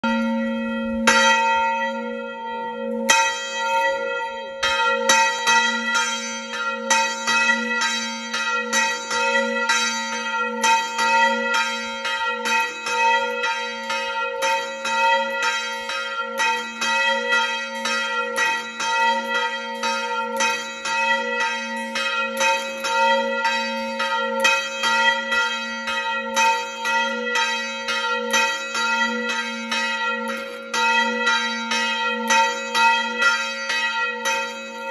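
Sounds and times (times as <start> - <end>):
church bell ringing: 0.0 - 34.9.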